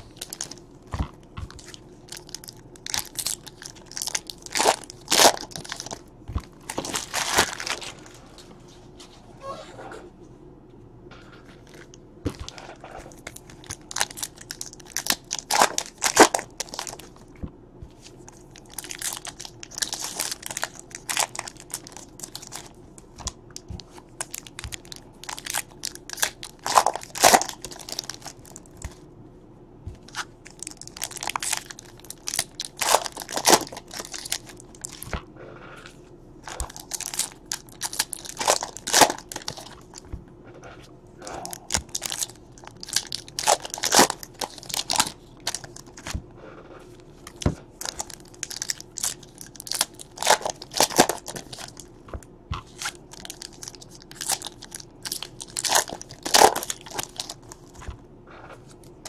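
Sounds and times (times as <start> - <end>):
wrappers crinkling and tearing: 0.0 - 8.2, 12.4 - 17.2, 18.0 - 29.0, 30.0 - 35.2, 36.4 - 40.0, 41.2 - 46.2, 46.9 - 57.9.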